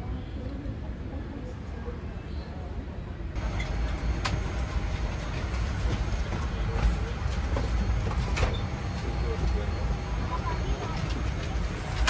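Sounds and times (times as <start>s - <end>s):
airliner cabin low rumble: 0.0s - 12.0s.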